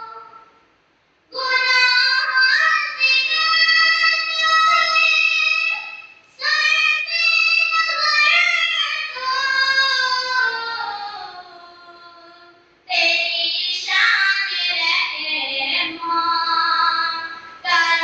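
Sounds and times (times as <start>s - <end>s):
girl singing unaccompanied: 0.0s - 0.6s, 1.3s - 18.0s.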